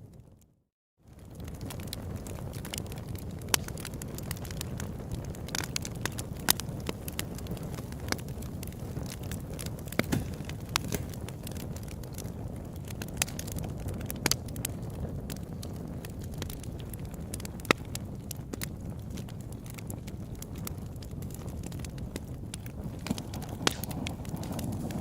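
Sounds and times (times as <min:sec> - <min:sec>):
low rumble of fire flames: 0:00.0 - 0:25.0
campfire crackles and pops: 0:01.0 - 0:25.0.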